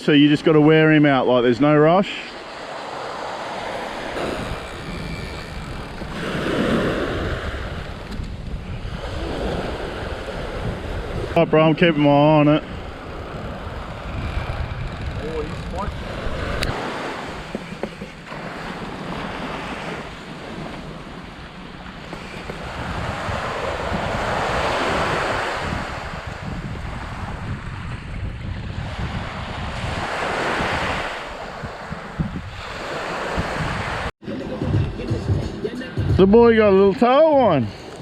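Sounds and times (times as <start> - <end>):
ocean surf washing in: 0.0 - 34.1
wind rumbling on microphone: 2.4 - 34.1.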